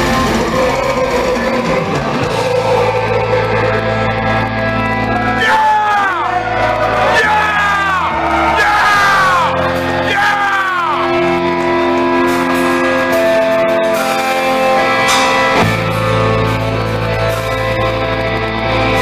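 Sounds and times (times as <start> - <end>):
long held guitar notes: 0.0 - 19.0
metal band playing live: 0.0 - 19.0.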